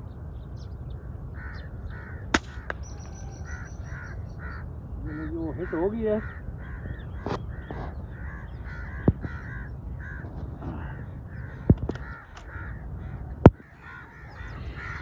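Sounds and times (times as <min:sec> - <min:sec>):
crows cawing: 0:01.3 - 0:15.0.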